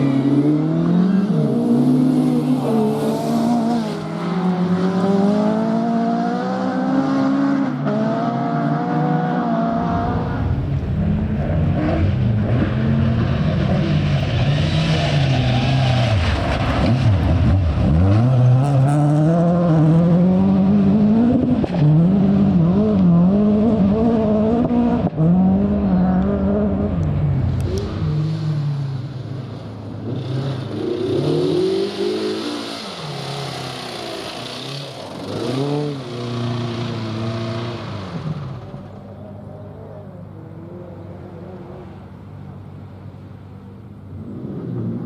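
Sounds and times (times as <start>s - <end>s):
rally car engine revving: 0.0s - 42.1s.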